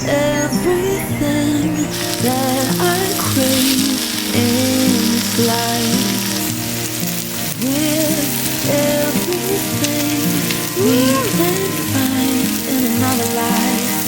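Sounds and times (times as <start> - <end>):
background music: 0.0 - 14.0
food sizzling in hot oil: 1.9 - 14.0.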